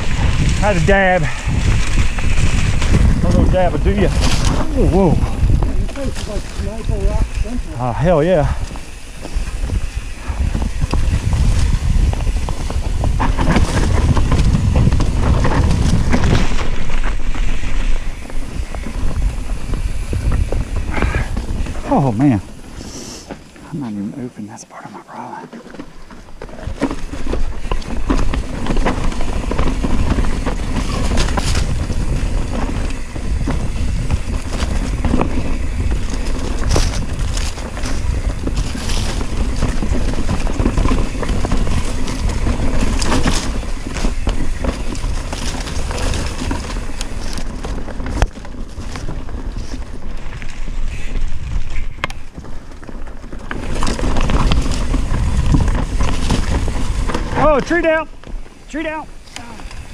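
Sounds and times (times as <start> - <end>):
bike rattling: 0.0 - 24.3, 25.4 - 59.9
wind rumbling on microphone: 0.0 - 59.9.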